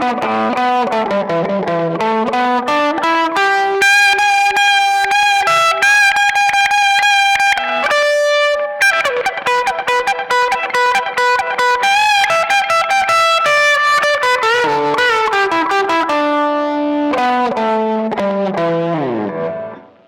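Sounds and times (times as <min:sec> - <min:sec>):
electric guitar lead: 0:00.0 - 0:20.0.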